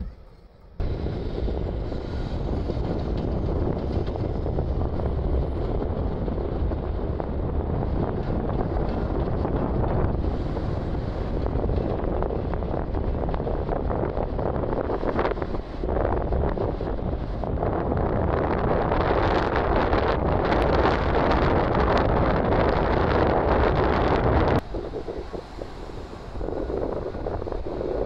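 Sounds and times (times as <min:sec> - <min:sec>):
wind buffeting microphone: 0:00.8 - 0:28.0.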